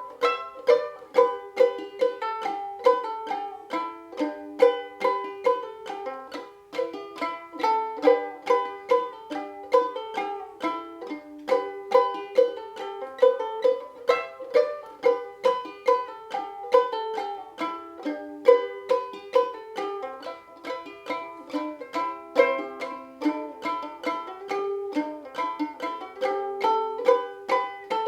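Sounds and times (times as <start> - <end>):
ukulele plucking and strumming: 0.0 - 28.0.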